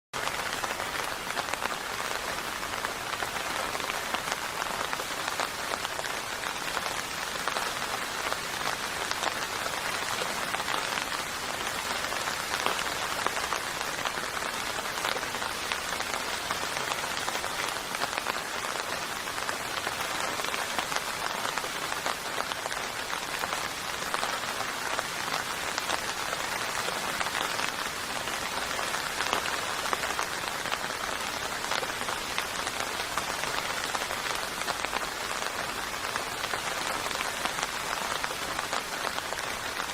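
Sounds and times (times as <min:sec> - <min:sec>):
rain falling: 0:00.2 - 0:39.9.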